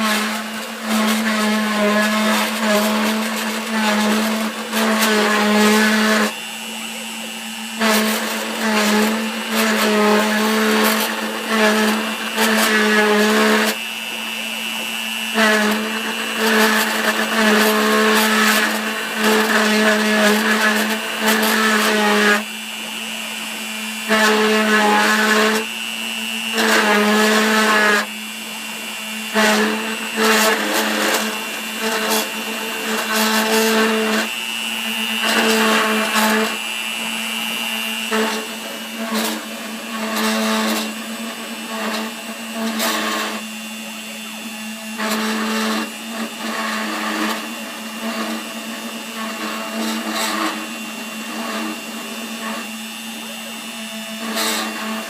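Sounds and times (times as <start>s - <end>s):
cutter screeching into metal: 0.0s - 55.0s
router spindle whining: 0.0s - 55.0s.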